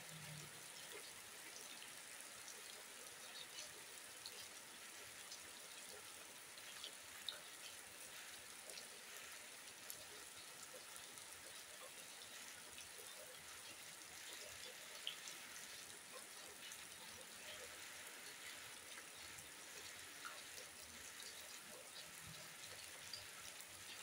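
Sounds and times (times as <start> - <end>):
faint steady rain: 0.0 - 24.0.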